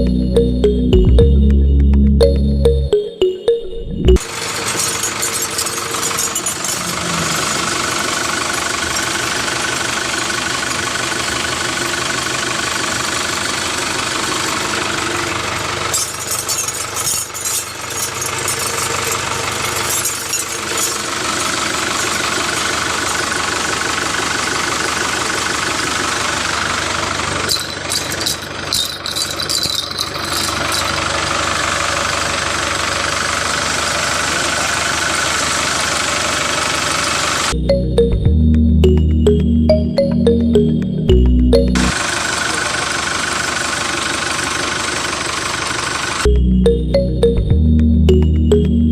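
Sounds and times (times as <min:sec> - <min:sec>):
engine running with rattling: 0:04.1 - 0:48.9.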